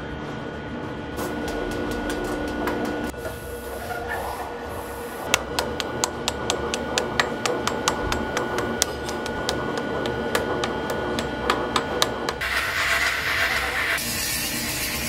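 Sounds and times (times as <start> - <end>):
lathe machine hum: 1.0 - 14.0.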